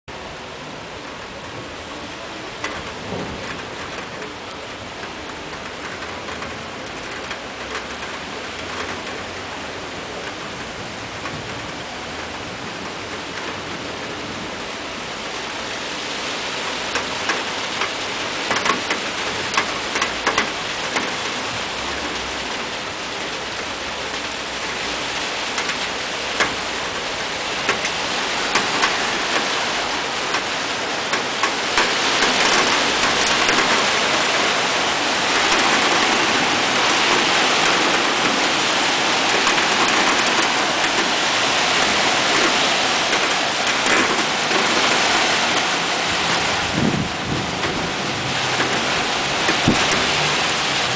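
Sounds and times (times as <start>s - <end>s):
heavy rain hissing: 0.2s - 50.9s
raindrops tapping nearby: 1.2s - 50.9s.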